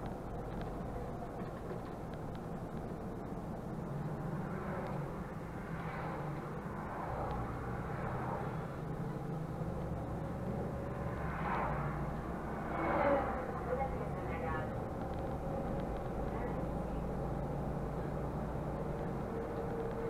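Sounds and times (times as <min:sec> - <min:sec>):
bus engine drone: 0:00.0 - 0:20.0
tyre and road noise: 0:00.0 - 0:20.0.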